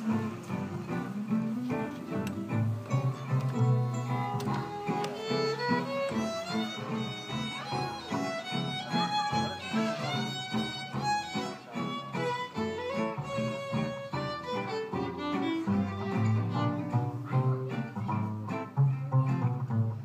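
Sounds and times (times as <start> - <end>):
violin melody: 0.0 - 19.9
acoustic guitar: 0.0 - 20.0
double bass: 0.0 - 20.0.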